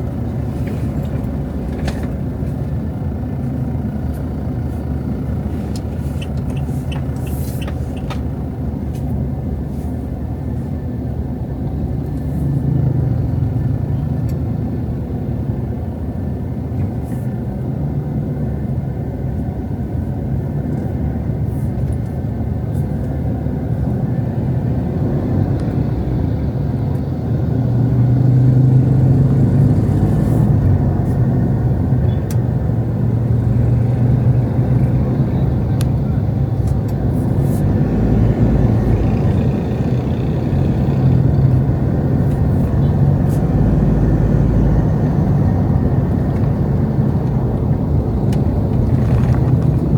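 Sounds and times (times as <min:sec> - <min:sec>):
passing cars rumble: 0:00.0 - 0:17.1, 0:22.4 - 0:49.9.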